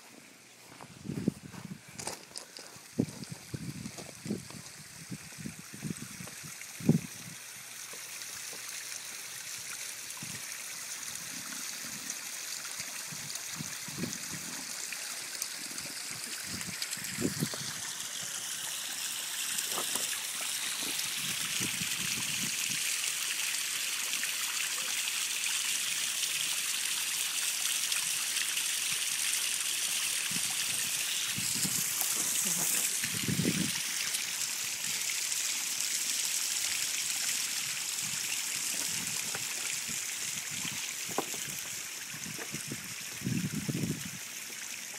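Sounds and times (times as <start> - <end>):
waterfall trickling and splashing: 2.0 - 44.9.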